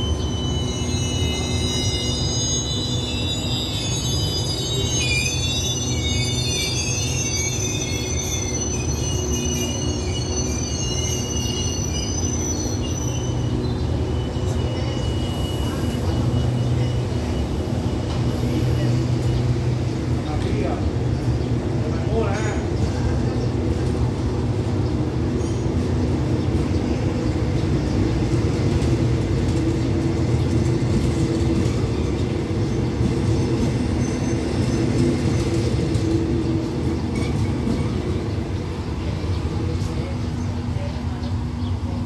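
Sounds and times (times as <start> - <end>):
train coaches rumbling past: 0.0 - 42.0.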